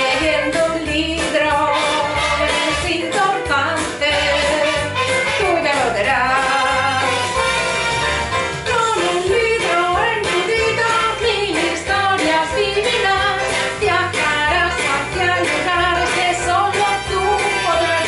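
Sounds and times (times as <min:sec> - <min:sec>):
woman singing: 0:00.0 - 0:07.3, 0:08.6 - 0:18.0
upbeat pop song with beat: 0:00.0 - 0:18.0.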